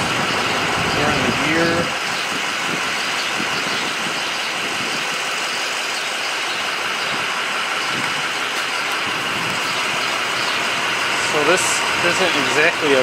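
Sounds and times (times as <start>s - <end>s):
motor vehicle running hiss: 0.0s - 13.0s.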